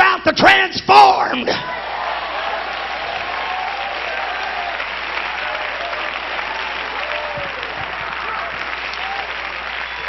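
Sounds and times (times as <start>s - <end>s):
congregation applauding: 1.6s - 10.0s.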